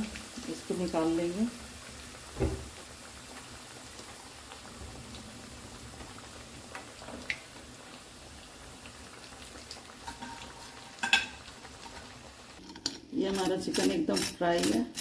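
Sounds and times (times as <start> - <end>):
hot oil bubbling and sizzling: 0.0 - 15.0.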